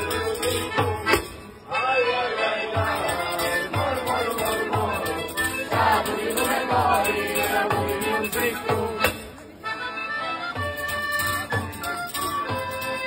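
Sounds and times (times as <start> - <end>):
folk music with steady beat: 0.0 - 13.0.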